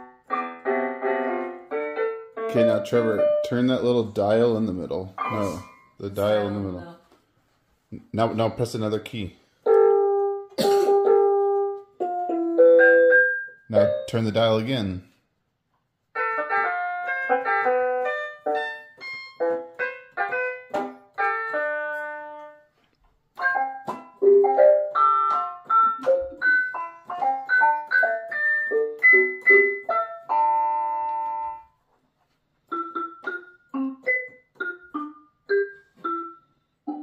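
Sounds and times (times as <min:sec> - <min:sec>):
electronic keyboard piano notes: 0:00.0 - 0:06.8, 0:09.6 - 0:14.8, 0:16.1 - 0:22.7, 0:23.3 - 0:31.8, 0:32.7 - 0:37.0.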